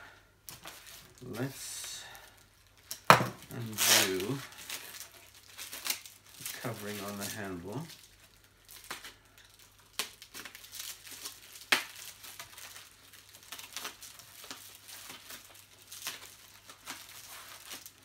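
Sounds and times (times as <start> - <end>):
packaging wrap crinkling: 0.4 - 18.0.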